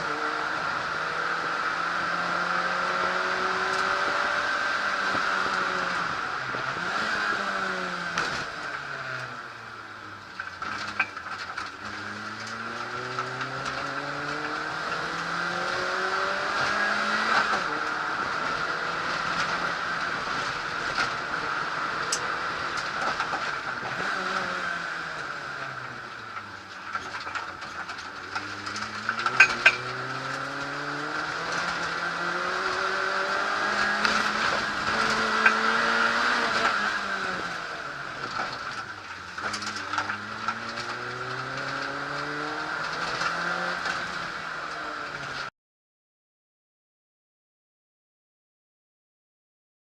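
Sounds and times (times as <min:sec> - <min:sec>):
rally car engine revving: 0:00.0 - 0:45.5.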